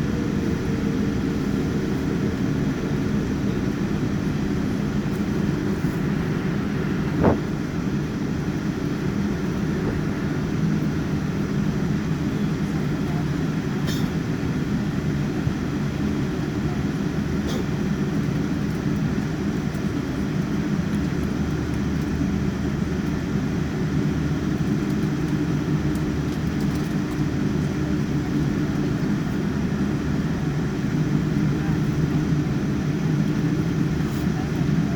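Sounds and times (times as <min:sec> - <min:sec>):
rumbling airplane cabin noise: 0:00.0 - 0:34.9.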